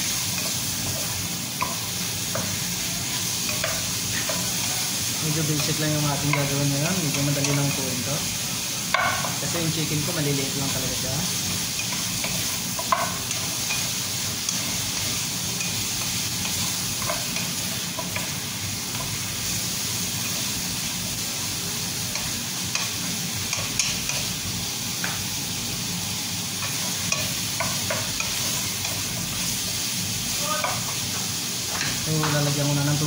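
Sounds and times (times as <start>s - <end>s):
chicken sizzling in a frying pan: 0.0s - 33.0s.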